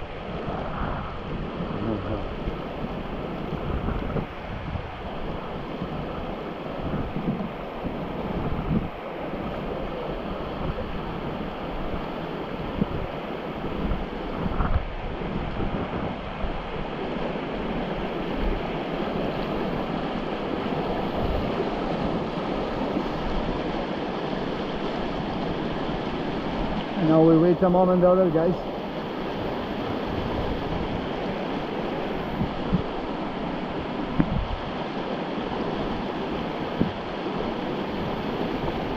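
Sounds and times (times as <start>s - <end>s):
rushing river whitewater: 0.0s - 38.9s
wind buffeting microphone: 0.0s - 38.9s.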